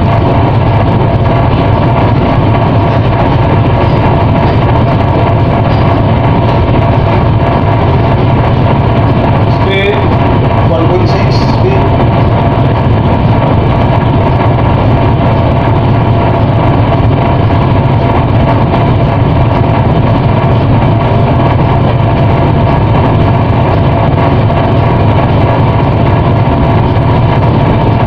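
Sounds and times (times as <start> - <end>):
ship engine droning: 0.0 - 28.0.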